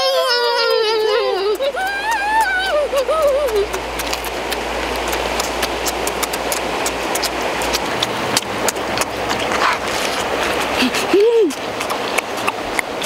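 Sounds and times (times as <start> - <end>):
chewing and sucking: 0.1 - 13.0
cucumber crunching: 0.1 - 13.0
sharp clicks and smacks: 1.0 - 10.7, 11.5 - 13.0.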